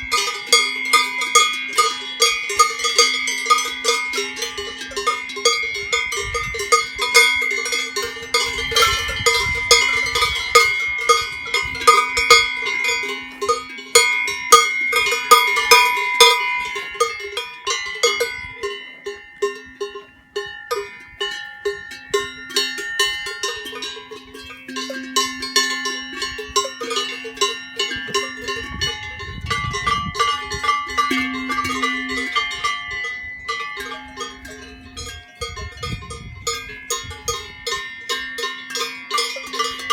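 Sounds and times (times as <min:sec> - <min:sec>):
cowbells clanging: 0:00.0 - 0:39.9.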